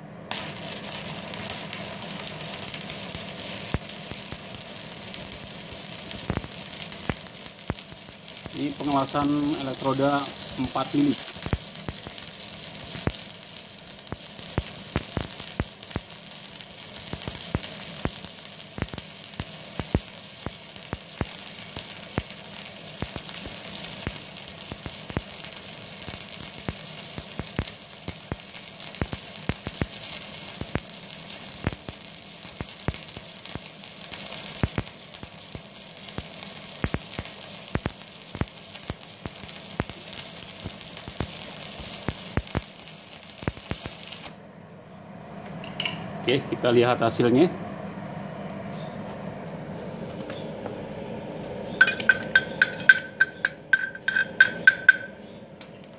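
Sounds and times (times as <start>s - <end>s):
welding arc crackling and sizzling: 0.0s - 44.4s, 51.5s - 55.9s.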